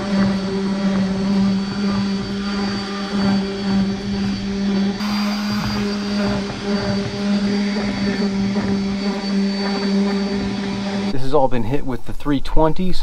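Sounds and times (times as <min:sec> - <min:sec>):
orbital sander running: 0:00.0 - 0:11.2.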